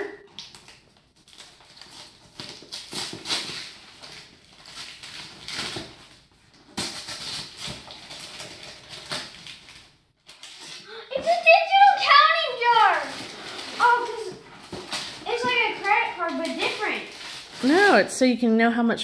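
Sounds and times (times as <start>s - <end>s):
wrapping paper tearing and crinkling: 0.0s - 18.1s.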